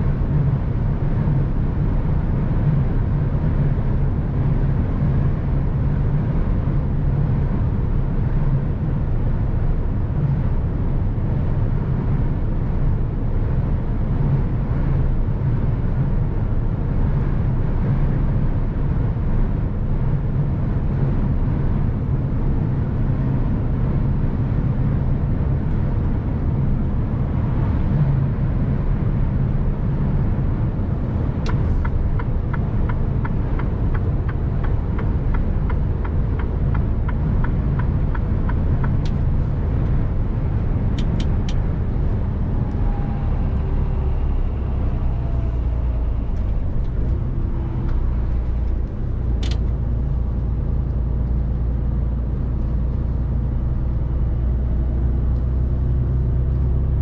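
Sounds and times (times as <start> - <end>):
diesel truck engine rumble: 0.0 - 57.0.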